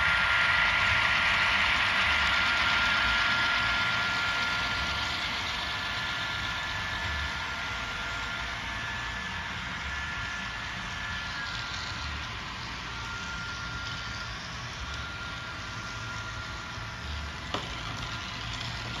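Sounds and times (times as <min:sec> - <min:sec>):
faint high whine: 0:00.0 - 0:19.0
model train running: 0:00.0 - 0:19.0.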